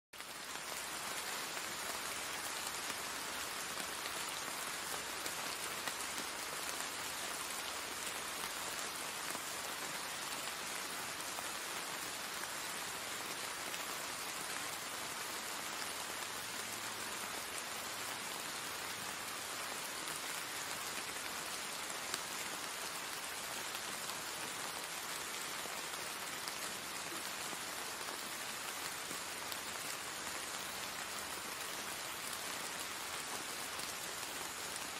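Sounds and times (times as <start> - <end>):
rain on plants and paving: 0.1 - 34.9.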